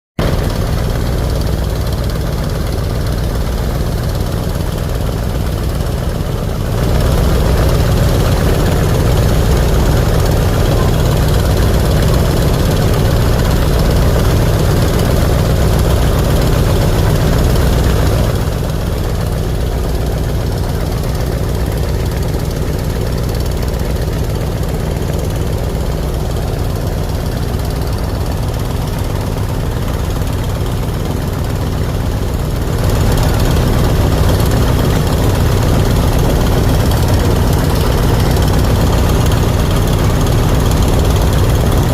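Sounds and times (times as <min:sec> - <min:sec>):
boat diesel engine rumble: 0:00.2 - 0:41.9.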